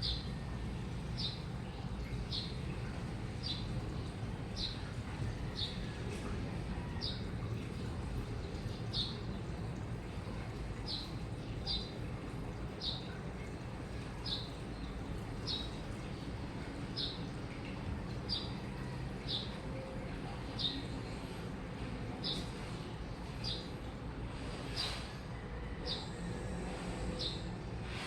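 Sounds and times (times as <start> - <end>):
washing machine rumbling: 0.0 - 28.0.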